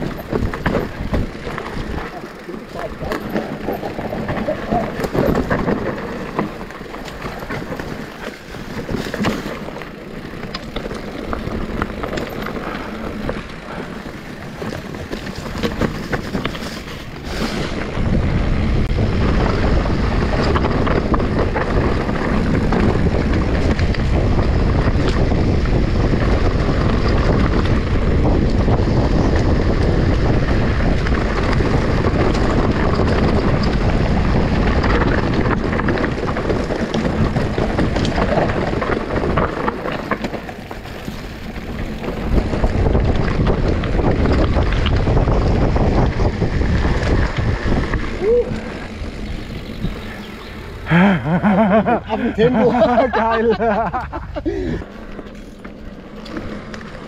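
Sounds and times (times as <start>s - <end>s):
bike clicks and rattles: 0.0s - 57.0s
bike tyre noise on dirt: 0.0s - 57.0s
wind rumble on microphone: 0.0s - 57.0s.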